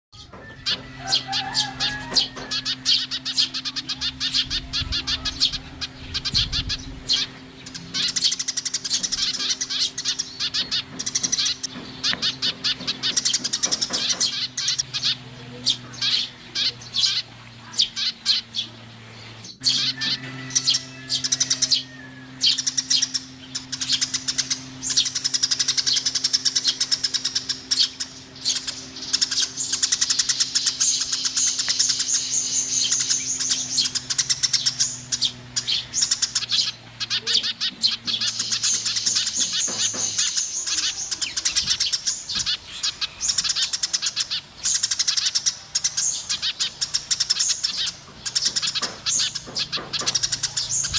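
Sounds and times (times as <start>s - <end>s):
sparrows chirping rapidly: 0.1s - 50.9s
steady low hum: 0.2s - 50.9s.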